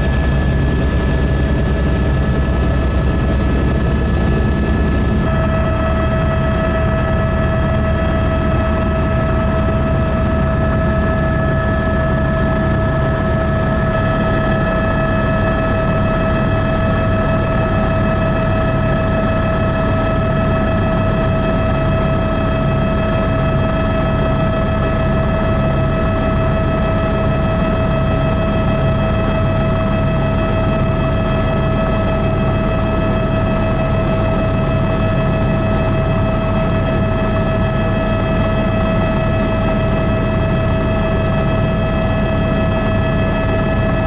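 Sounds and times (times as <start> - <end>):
helicopter engine whine: 0.0 - 44.0.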